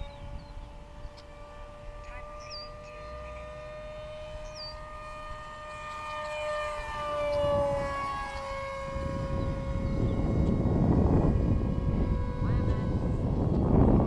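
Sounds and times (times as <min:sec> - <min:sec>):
model plane motor whining: 0:00.0 - 0:14.0
wind noise on microphone: 0:00.0 - 0:14.0.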